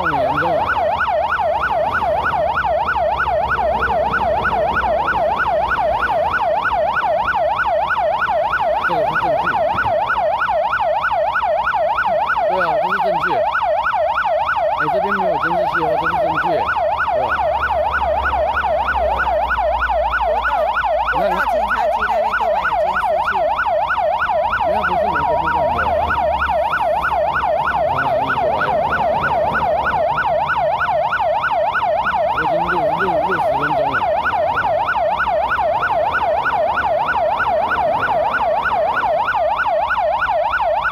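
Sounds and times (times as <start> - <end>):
passing vehicle rumble: 0.0 - 11.1, 14.5 - 39.6
emergency siren yelping: 0.0 - 40.9.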